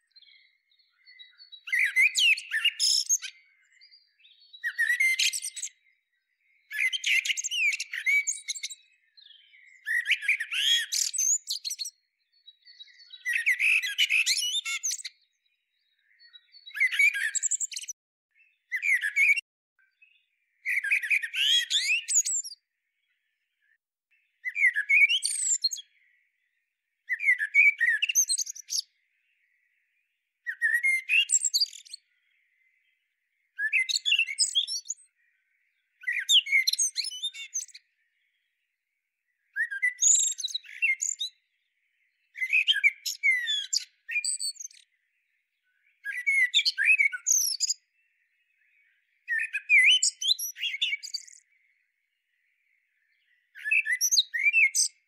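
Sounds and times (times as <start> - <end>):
blackbird singing: 0.0 - 38.7, 39.3 - 55.0.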